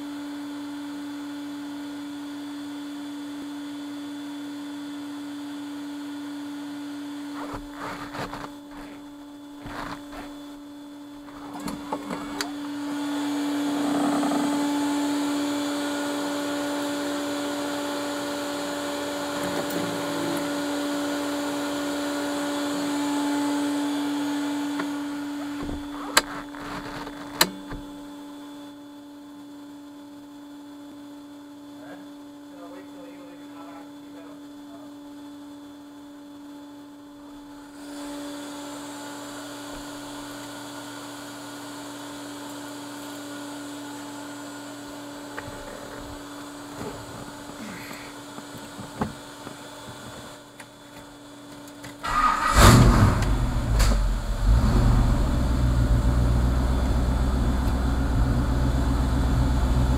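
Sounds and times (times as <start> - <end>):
steady electrical hum: 5.6 - 40.7, 41.3 - 59.9.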